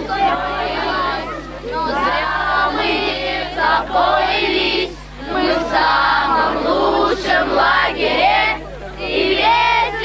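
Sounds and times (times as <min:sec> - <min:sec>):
group singing in chorus: 0:00.0 - 0:10.0.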